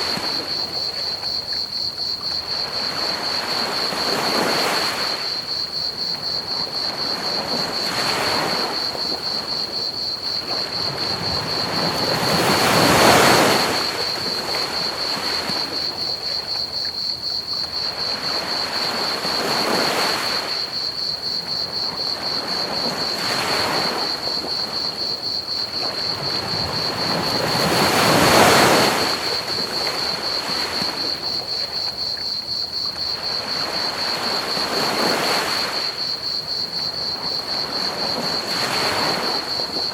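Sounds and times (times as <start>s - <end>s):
crickets chirring: 0.0s - 39.9s
ocean waves washing onto beach: 0.0s - 39.9s.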